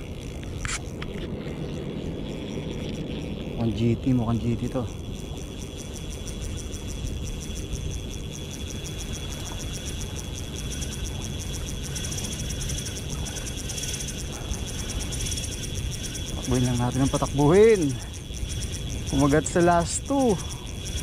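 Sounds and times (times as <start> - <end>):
low wind rumble: 0.0 - 21.0.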